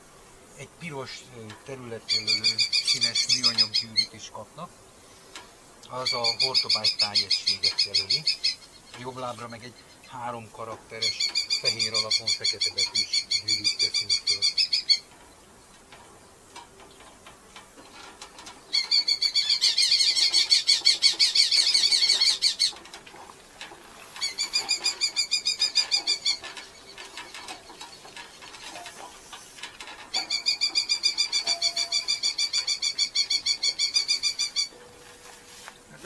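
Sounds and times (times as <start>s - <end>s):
faint ticking and scratching: 0.0s - 36.0s
falcons calling: 2.0s - 4.2s, 5.1s - 36.0s.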